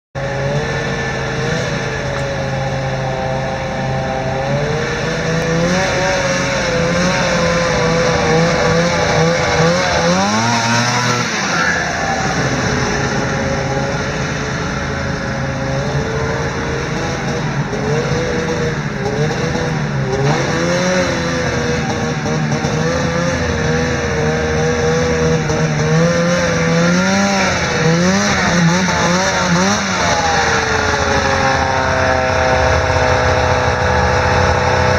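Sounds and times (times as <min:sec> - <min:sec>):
snowmobile engine revving: 0:00.2 - 0:34.9.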